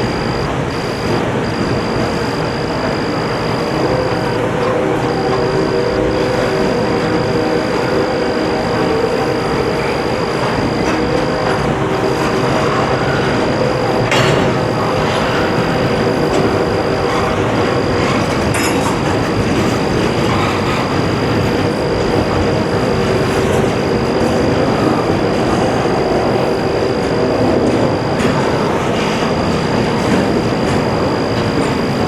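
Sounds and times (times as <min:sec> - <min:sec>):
thin high whine: 0:00.0 - 0:32.0
train wheels rumbling on rail: 0:00.0 - 0:32.0.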